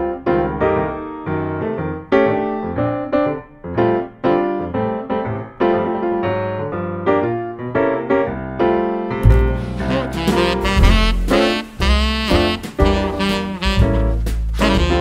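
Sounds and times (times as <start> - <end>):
piano background music: 0.0 - 15.0.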